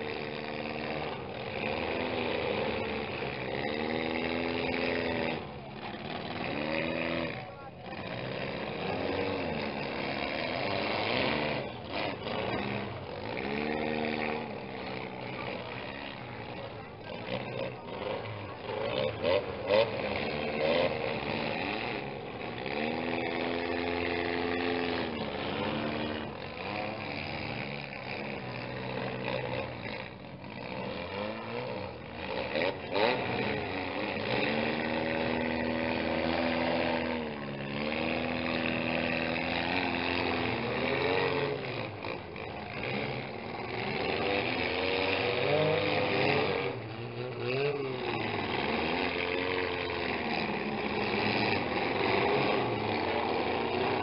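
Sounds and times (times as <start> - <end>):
car engines revving hard: 0.0 - 54.0.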